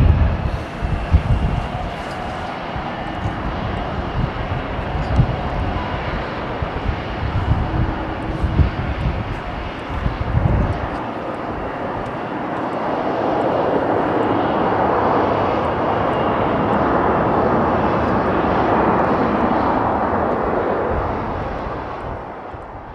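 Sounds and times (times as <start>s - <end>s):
gusty low rumble: 0.0s - 22.9s
jet engines reverse thrust roar: 0.0s - 22.9s.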